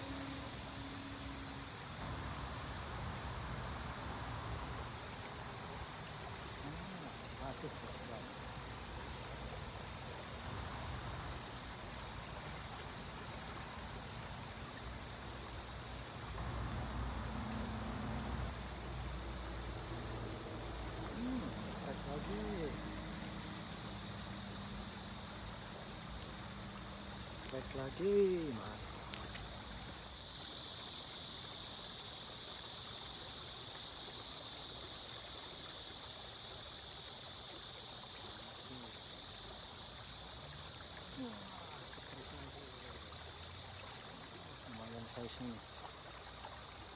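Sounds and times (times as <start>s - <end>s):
water rushing over weir: 0.0s - 46.9s.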